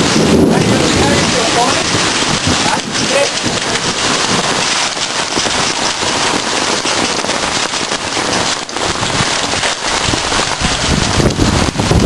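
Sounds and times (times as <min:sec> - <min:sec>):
heavy rain: 0:00.0 - 0:12.0
rain drops hitting: 0:00.0 - 0:12.0.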